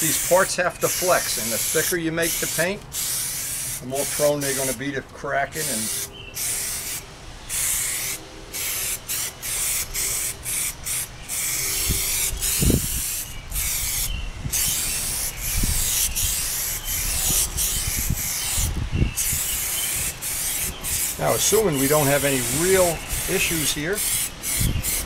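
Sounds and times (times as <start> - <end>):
aerosol spray can hissing: 0.0 - 4.8, 5.6 - 25.0.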